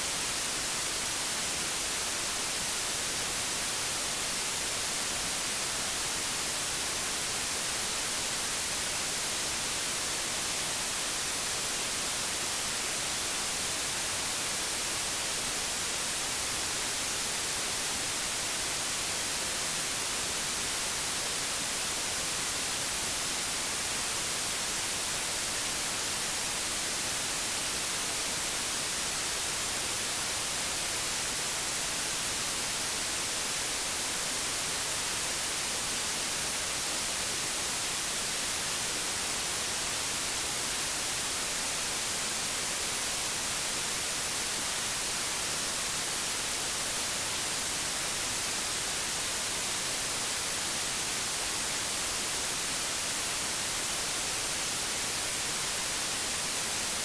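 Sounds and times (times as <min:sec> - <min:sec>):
television static hiss: 0:00.0 - 0:57.0.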